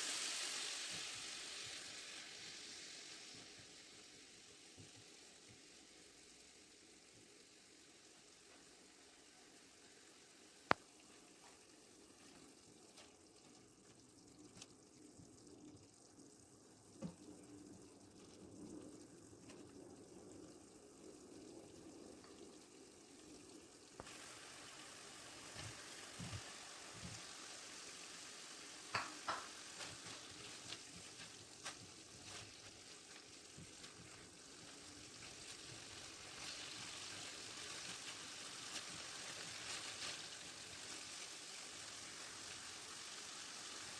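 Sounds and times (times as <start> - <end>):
soft hiss: 0.0 - 43.9.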